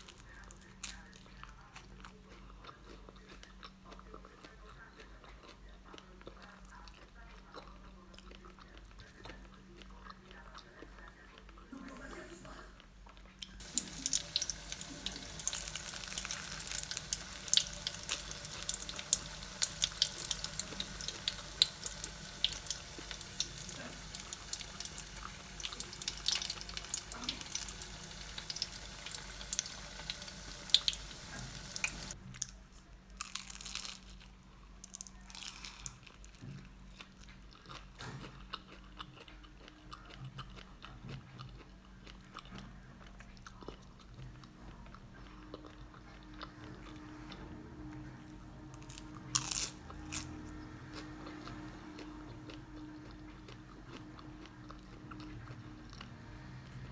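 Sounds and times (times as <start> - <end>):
crunchy chewing: 0.0 - 11.6, 13.1 - 32.2, 33.2 - 47.4, 48.8 - 56.1.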